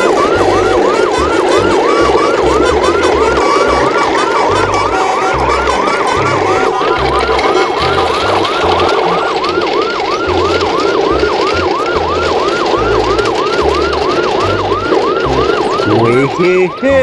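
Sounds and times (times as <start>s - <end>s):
electronic siren yelping: 0.0s - 17.0s
low bass line: 0.0s - 17.0s.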